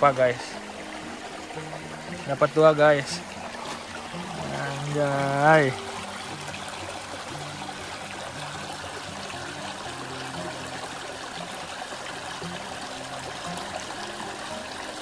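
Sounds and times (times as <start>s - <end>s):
river water rushing and trickling: 0.0s - 15.0s.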